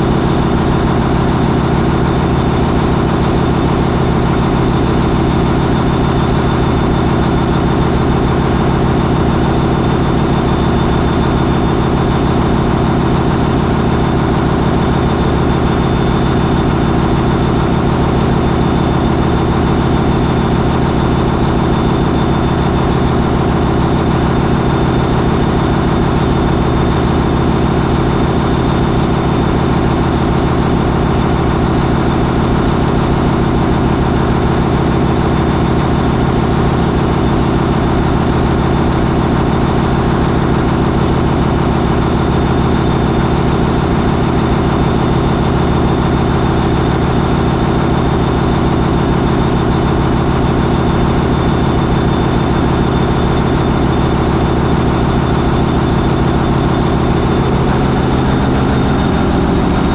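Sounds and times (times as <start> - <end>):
marine diesel engine droning: 0.0 - 59.9.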